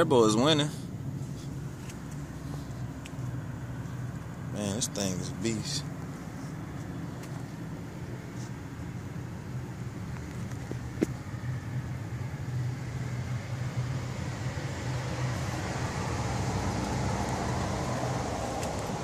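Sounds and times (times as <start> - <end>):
vehicle engine hum: 0.0 - 19.0.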